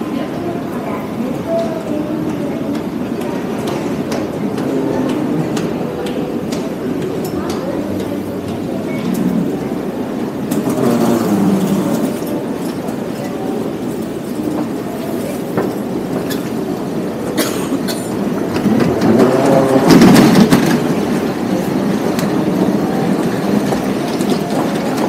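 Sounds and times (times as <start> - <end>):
crowd noise: 0.0 - 25.0.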